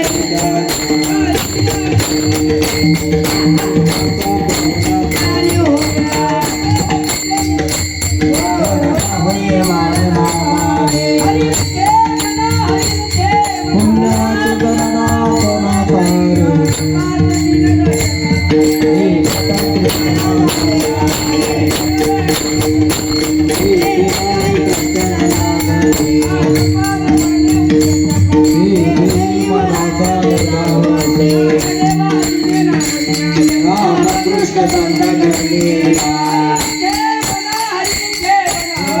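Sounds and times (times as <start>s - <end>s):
group devotional singing: 0.0s - 39.0s
hand cymbals clashing: 0.0s - 39.0s.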